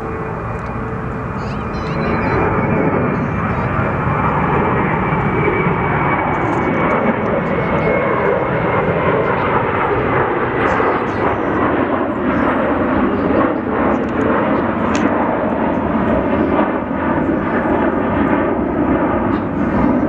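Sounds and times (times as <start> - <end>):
jet engines at high power: 0.0 - 20.0.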